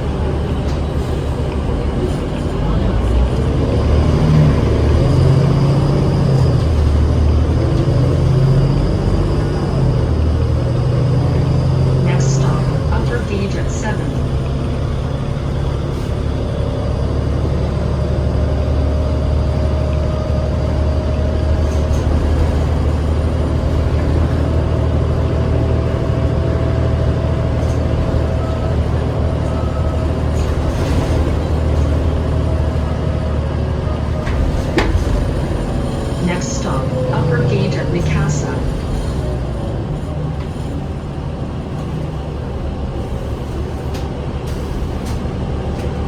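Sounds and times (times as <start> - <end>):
bus diesel engine drone: 0.0 - 46.0.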